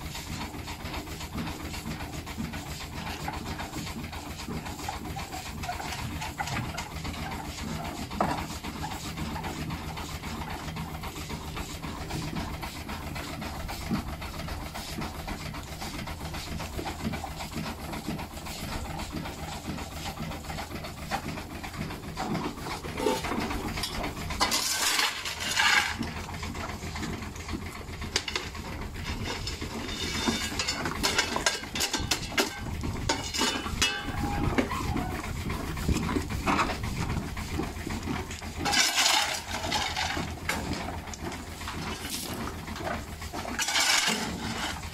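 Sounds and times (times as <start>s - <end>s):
stone crusher running: 0.0s - 44.9s.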